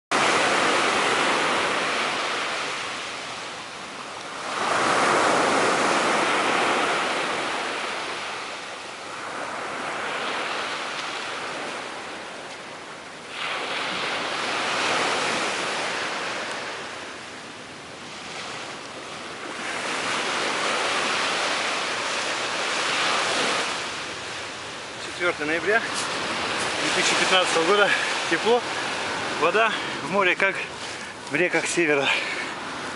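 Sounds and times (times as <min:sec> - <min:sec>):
waves breaking on shore: 0:00.1 - 0:32.9.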